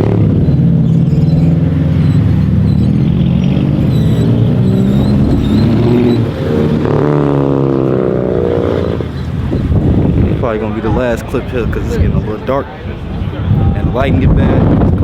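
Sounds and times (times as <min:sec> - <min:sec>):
car engine running loudly: 0:00.0 - 0:15.0.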